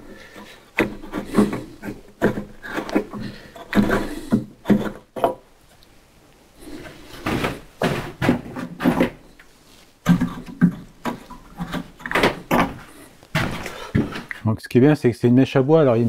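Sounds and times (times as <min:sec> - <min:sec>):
wooden knocks and clunks: 0:00.0 - 0:05.5, 0:06.7 - 0:14.4.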